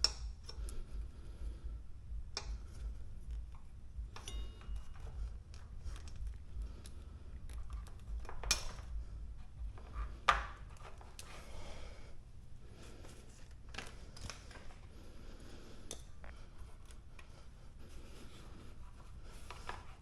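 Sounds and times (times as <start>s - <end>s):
tools and bike parts handled: 2.3s - 12.2s, 12.9s - 14.9s, 15.8s - 20.0s.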